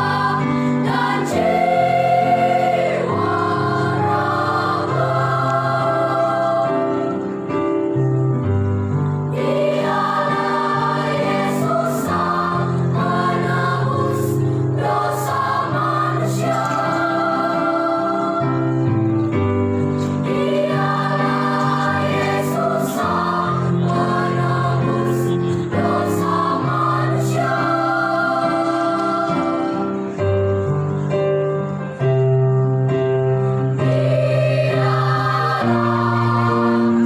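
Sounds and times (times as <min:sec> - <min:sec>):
choir singing sacred song: 0:00.0 - 0:08.0, 0:09.3 - 0:30.4, 0:33.6 - 0:37.0.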